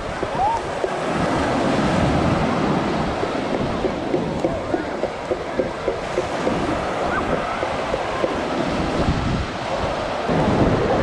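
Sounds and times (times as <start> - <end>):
waves breaking on a beach: 0.0 - 11.0
wind buffeting microphone: 0.0 - 11.0.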